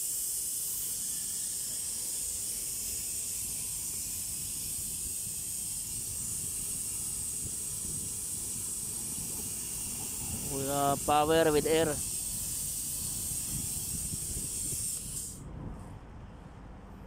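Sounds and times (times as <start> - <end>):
compressed air hissing: 0.0 - 15.4.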